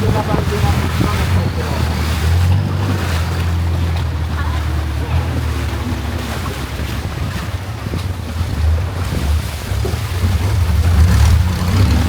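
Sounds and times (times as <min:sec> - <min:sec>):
boat engine droning: 0:00.0 - 0:12.0
water rushing past hull: 0:00.0 - 0:12.0
wind buffeting microphone: 0:00.0 - 0:12.0.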